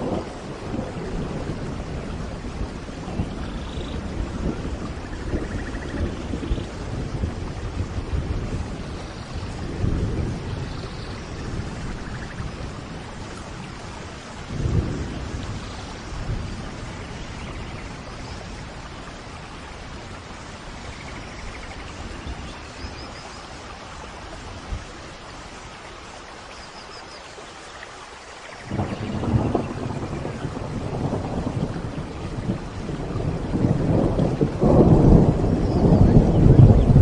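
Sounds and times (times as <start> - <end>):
thunder rumbling: 0.0 - 23.2, 28.6 - 37.0
steady rain falling: 0.0 - 37.0.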